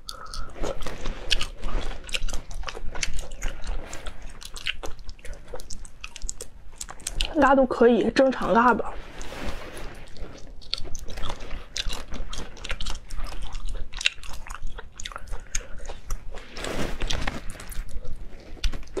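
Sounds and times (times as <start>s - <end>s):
chewing crunchy shells: 0.0s - 7.4s, 10.0s - 19.0s.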